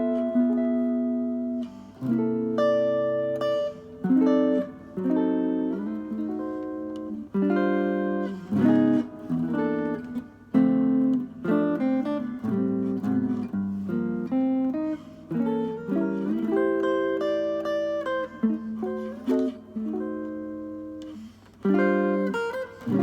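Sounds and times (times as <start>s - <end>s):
guitar plucking chords: 0.0s - 23.0s.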